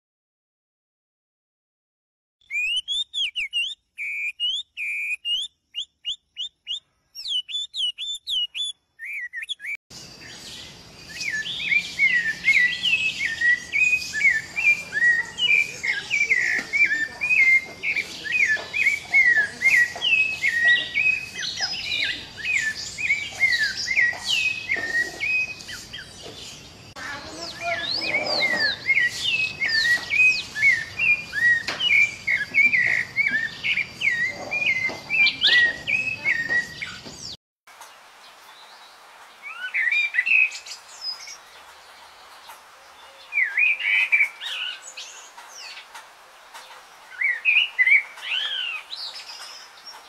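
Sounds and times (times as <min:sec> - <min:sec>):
birds chirping: 0:02.4 - 0:37.4, 0:38.0 - 0:50.0
steady outdoor hiss: 0:02.5 - 0:50.0.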